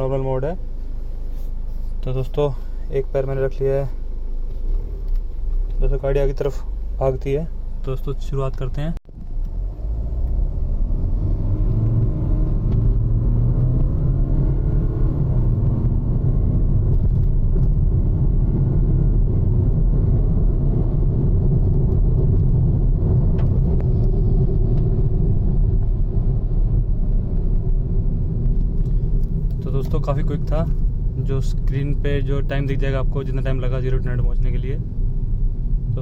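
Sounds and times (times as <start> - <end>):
car engine accelerating: 3.0 - 36.0.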